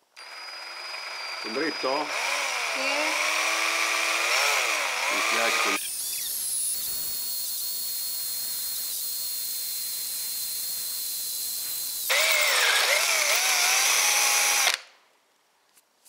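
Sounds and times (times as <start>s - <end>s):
power tool motor whining: 0.2s - 14.8s.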